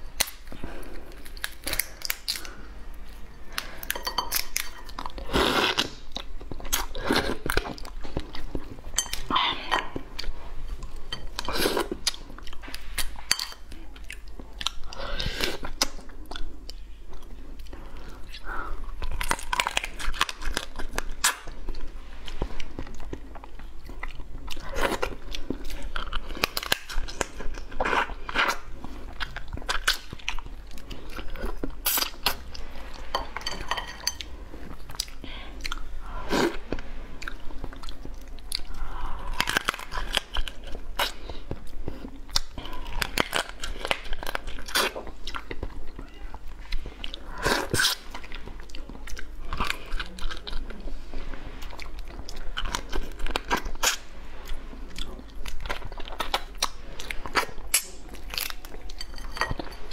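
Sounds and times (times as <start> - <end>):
chewing and crunching crab shell: 0.0 - 59.9.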